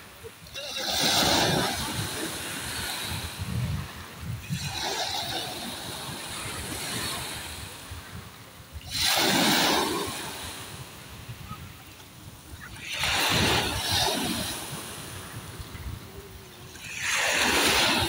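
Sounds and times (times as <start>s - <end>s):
sea waves washing and rushing: 0.0s - 18.0s.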